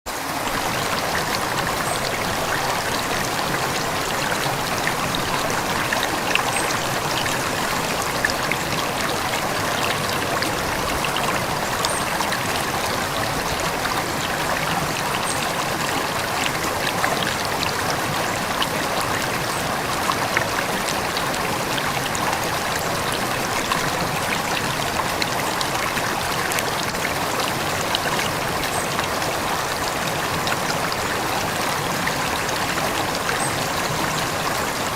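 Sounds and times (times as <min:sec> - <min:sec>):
river flowing over stones: 0:00.1 - 0:34.9
water splashes and drips: 0:00.1 - 0:34.9.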